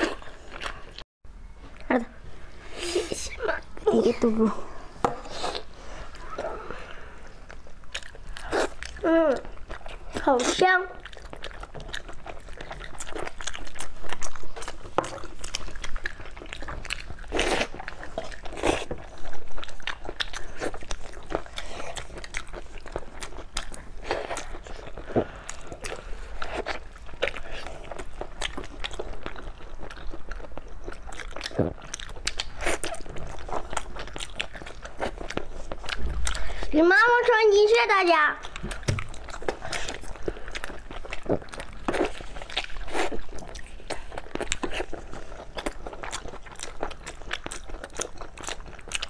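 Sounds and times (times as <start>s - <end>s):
wet biting and chewing: 5.0s - 36.7s, 38.4s - 49.0s.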